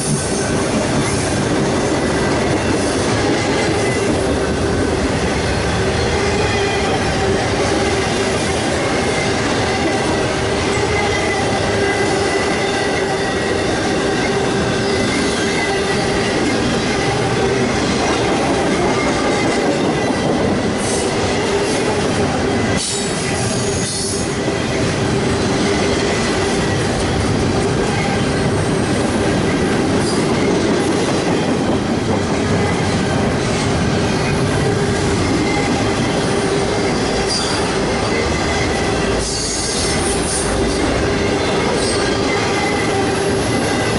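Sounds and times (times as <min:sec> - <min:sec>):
freight train cars rolling: 0:00.0 - 0:43.9
wheels squealing on rails: 0:00.0 - 0:43.9.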